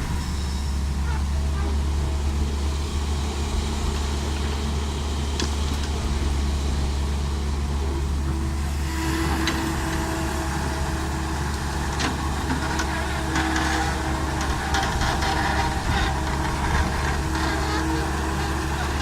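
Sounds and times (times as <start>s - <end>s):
excavator diesel engine: 0.0s - 19.0s
hydraulic whine: 0.0s - 19.0s.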